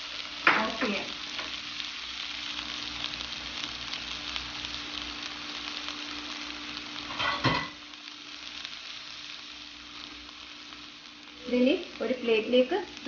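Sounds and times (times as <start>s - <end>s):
chicken sizzling in a frying pan: 0.0s - 13.0s
low rumble of gas flame: 0.0s - 13.0s.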